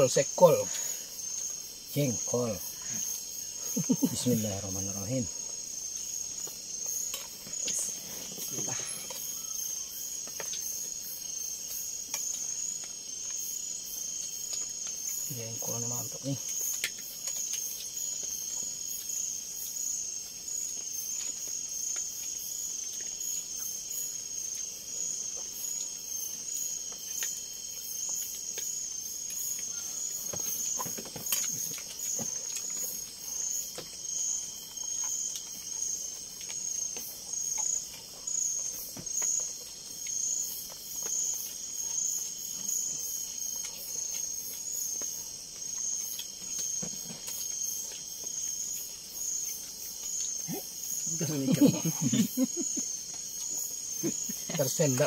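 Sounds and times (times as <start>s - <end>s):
higher insect chirping: 0.0s - 55.0s
insects chirping in a trill: 0.0s - 55.0s.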